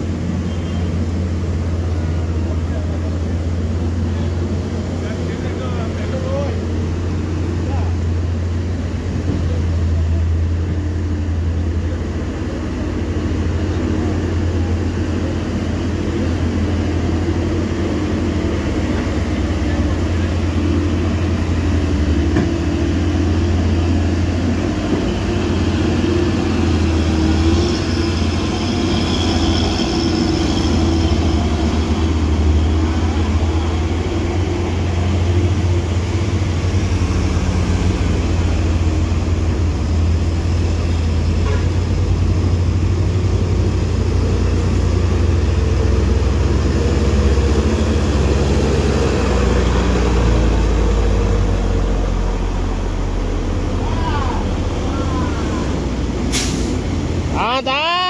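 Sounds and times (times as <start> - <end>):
heavy diesel truck engines: 0.0 - 58.0.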